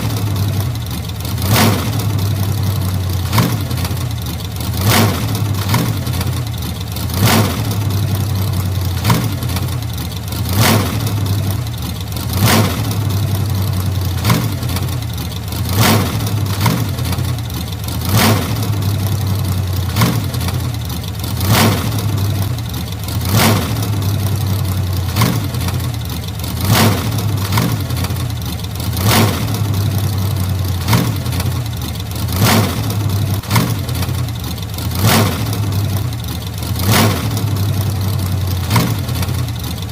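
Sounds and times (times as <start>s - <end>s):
old car engine idling: 0.0s - 39.9s.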